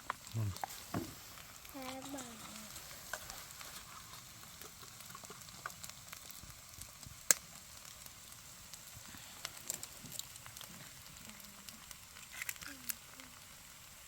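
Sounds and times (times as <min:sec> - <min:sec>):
rice sizzling in a pan: 0:00.0 - 0:14.0.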